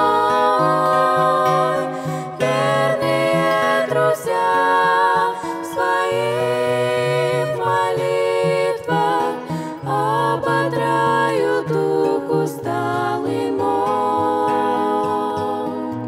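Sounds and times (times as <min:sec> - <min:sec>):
acoustic guitar: 0:00.0 - 0:16.0
women singing a hymn in harmony: 0:00.0 - 0:16.0.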